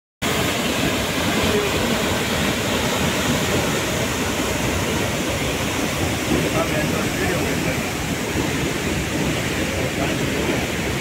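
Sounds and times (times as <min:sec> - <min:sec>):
waterfall rushing onto rocks: 0:00.2 - 0:11.0.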